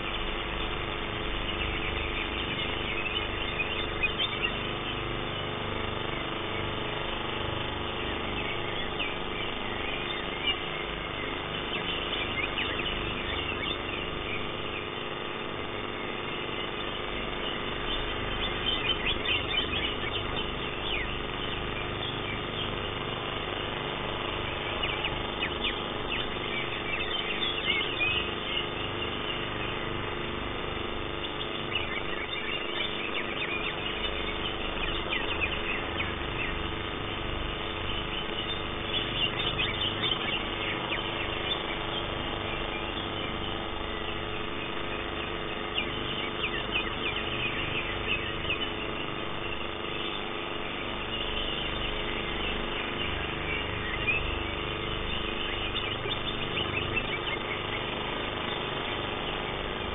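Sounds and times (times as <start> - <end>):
birds chirping and trilling: 0.0 - 59.9
steady hum: 0.0 - 59.9.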